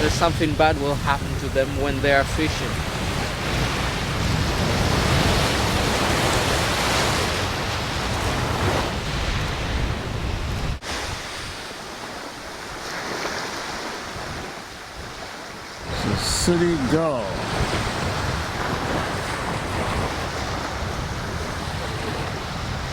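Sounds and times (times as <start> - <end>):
surf washing: 0.0 - 22.9
wind buffeting microphone: 0.0 - 22.9.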